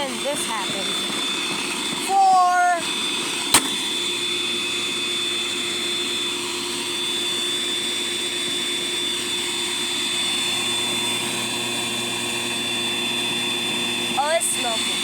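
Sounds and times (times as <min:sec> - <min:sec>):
vacuum cleaner motor whining: 0:00.0 - 0:15.0.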